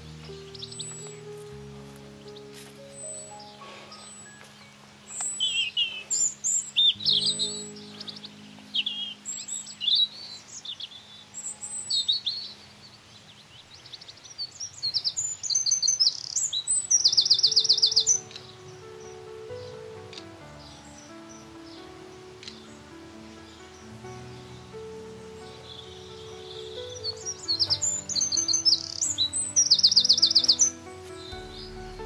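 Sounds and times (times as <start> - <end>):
soft background music: 0.0 - 12.9, 16.7 - 32.0
songbirds chirping: 0.0 - 32.0.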